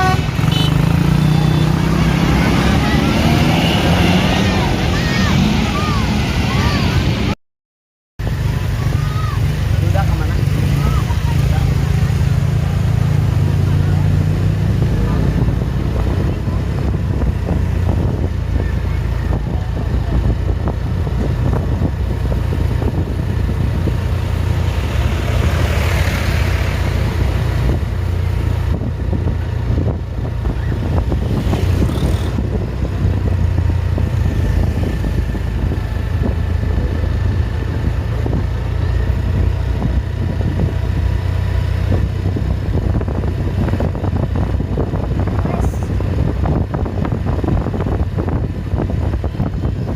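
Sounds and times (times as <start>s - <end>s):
bus engine rumble: 0.0s - 7.4s, 8.2s - 49.9s.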